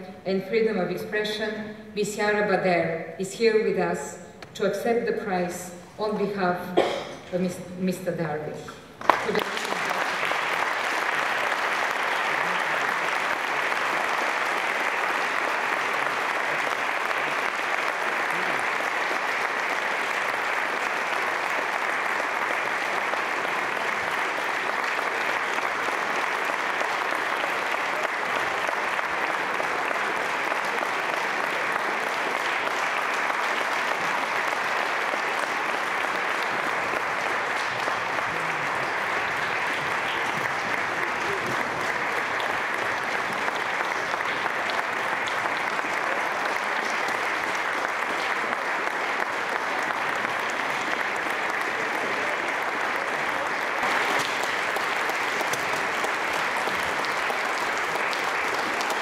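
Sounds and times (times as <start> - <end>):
audience applause: 9.0 - 59.0.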